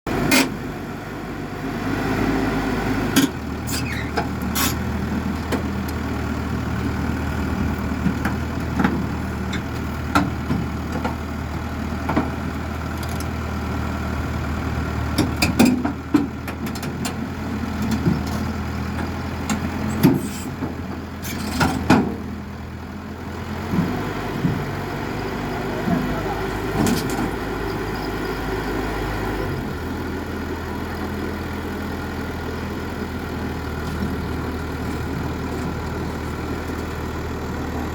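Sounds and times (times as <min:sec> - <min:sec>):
drilling rig engine running: 0:00.1 - 0:37.9.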